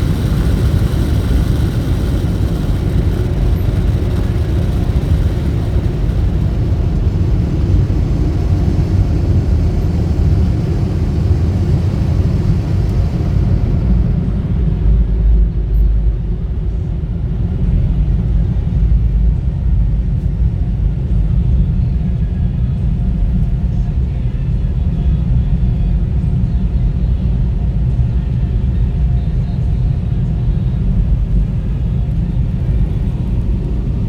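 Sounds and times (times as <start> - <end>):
car wash machinery rumble: 0.0 - 34.0.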